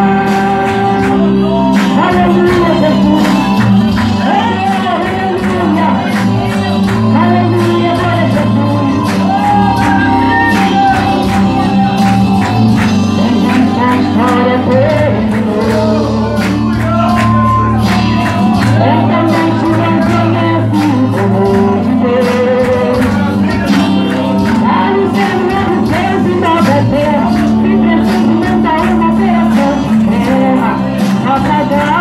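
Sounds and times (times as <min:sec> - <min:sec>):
backing music with bass and beat: 0:00.0 - 0:32.0
woman singing into a microphone: 0:00.0 - 0:32.0.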